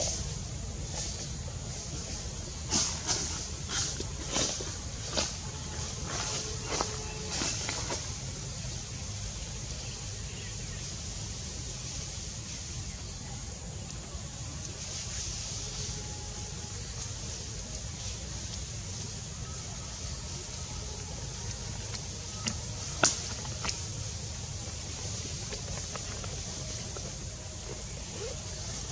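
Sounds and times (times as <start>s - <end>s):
outdoor background hiss: 0.0s - 28.9s.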